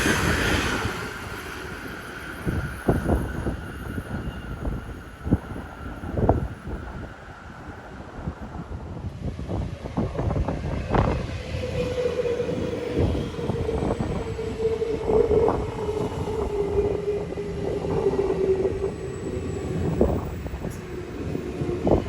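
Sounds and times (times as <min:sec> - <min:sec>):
train whine: 0:00.0 - 0:22.0.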